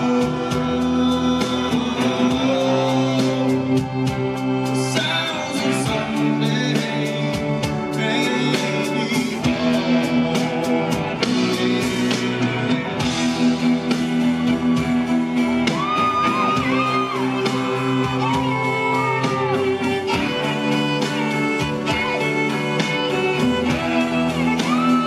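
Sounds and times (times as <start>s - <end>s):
bending lead guitar notes: 0.0s - 25.0s
live rock band playing: 0.0s - 25.0s.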